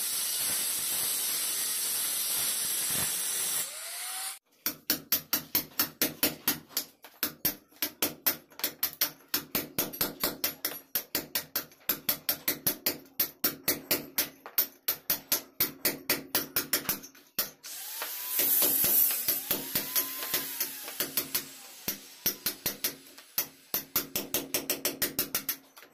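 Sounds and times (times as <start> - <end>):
hammer striking chisel into wall: 4.6 - 25.7.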